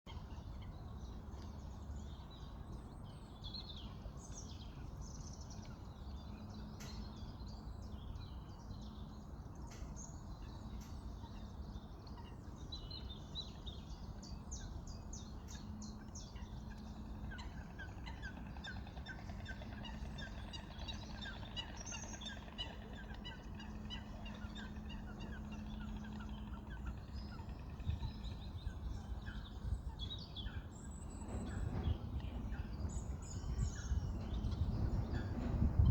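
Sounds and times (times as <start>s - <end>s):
low background noise: 0.1s - 35.9s
waterfowl and birds calling: 0.1s - 35.9s.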